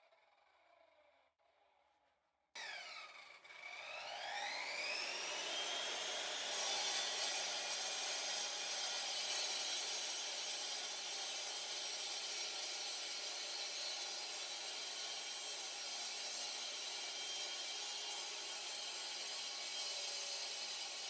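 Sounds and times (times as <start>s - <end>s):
electric concrete saw whine: 2.6s - 21.0s.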